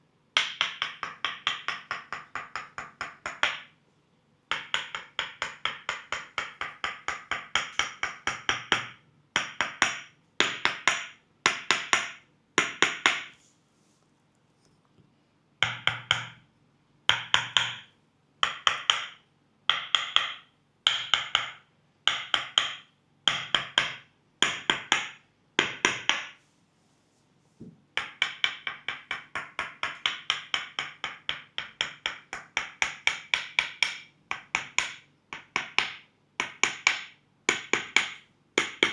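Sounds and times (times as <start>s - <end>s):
wooden mallet knocking on peg: 0.4s - 3.7s, 4.5s - 13.3s, 15.6s - 16.4s, 17.1s - 26.3s, 28.0s - 38.9s.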